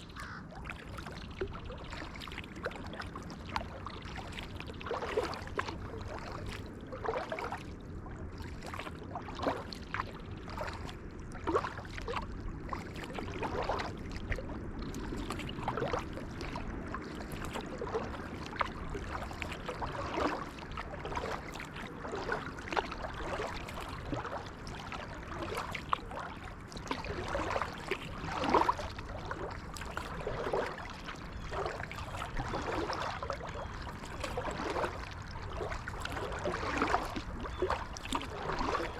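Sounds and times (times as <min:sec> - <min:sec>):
water gurgling along hull: 0:00.0 - 0:38.9
paddle splashing into water: 0:00.1 - 0:07.7, 0:08.4 - 0:38.9.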